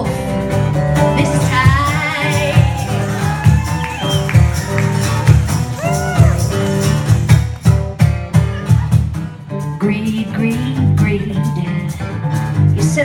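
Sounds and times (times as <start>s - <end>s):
live band playing: 0.0s - 13.0s
sliding bending guitar lead: 0.0s - 13.0s.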